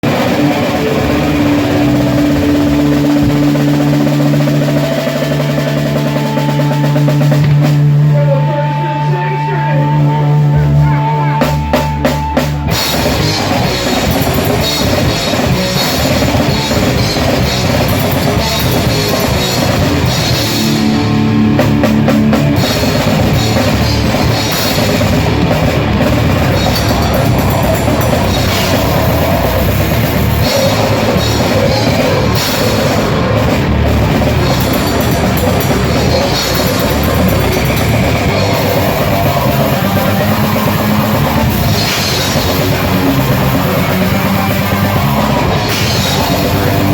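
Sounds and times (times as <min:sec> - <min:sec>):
drum kit pounding: 0:00.0 - 0:08.8, 0:10.2 - 0:46.9
distorted guitar and bass: 0:00.0 - 0:46.9.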